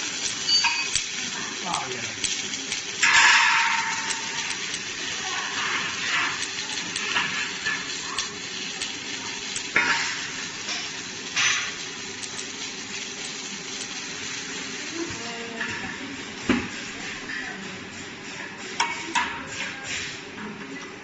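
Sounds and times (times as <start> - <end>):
welding crackling sizzle: 0.0 - 21.0.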